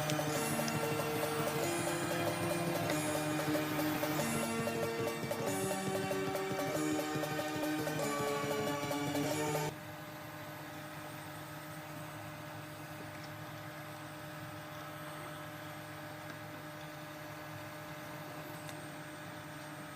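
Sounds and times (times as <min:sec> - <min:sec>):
electrical hum with held tones: 0:00.0 - 0:19.9.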